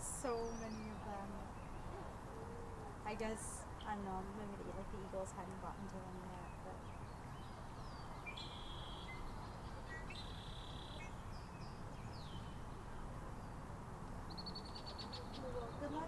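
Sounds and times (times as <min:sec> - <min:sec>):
faint bird song: 0:00.0 - 0:16.0
low outdoor hum: 0:00.0 - 0:16.0.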